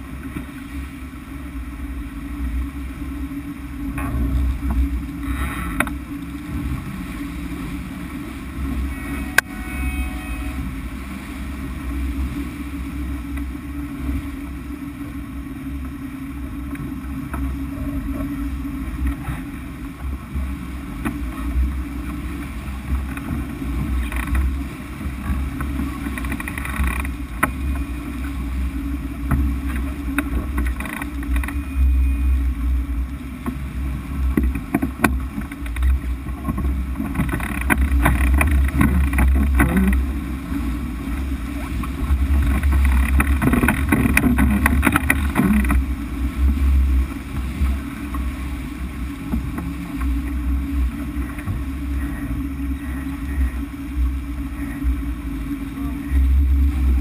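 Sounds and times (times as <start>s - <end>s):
water rushing along hull: 0.0s - 57.0s
wind buffeting microphone: 1.4s - 57.0s.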